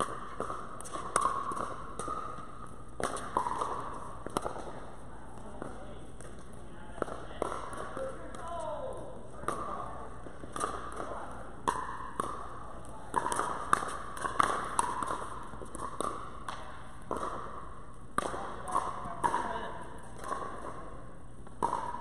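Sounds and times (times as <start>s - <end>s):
paddles hitting plastic ball: 0.0s - 22.0s.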